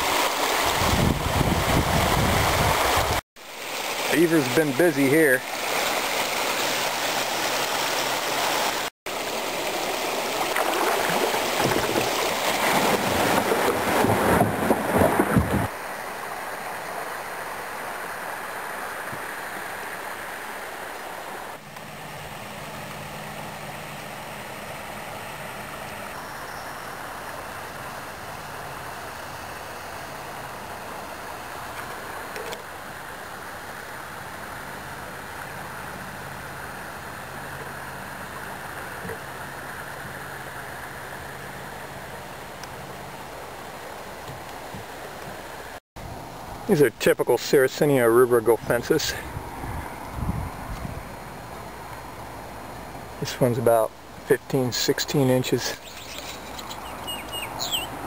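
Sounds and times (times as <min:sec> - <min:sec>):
creek water running and gurgling: 0:00.0 - 0:58.0.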